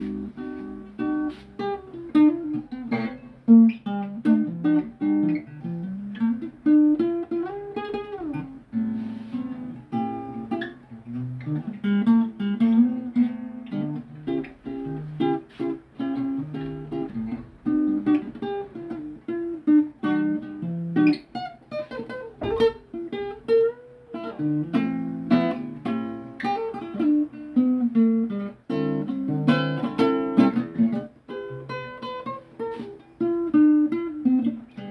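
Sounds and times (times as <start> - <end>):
acoustic guitar improvisation: 0.0 - 34.9.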